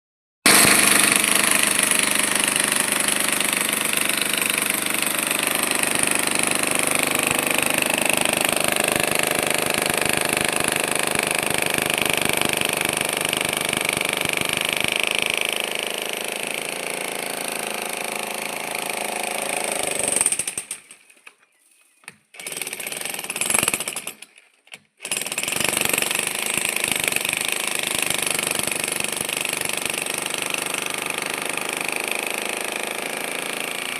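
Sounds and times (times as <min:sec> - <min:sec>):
breaker hammer chiselling concrete: 0:00.5 - 0:21.0, 0:22.1 - 0:33.9.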